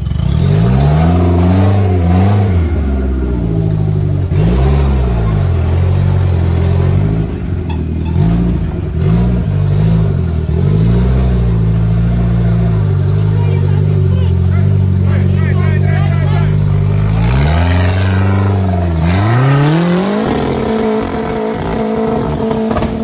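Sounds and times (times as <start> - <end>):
engine revving to rev limiter: 0.0 - 15.6, 16.2 - 23.0.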